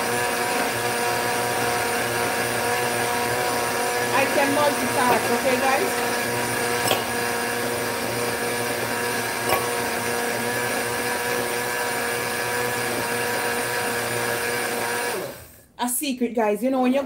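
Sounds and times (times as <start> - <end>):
blender running: 0.0 - 15.8.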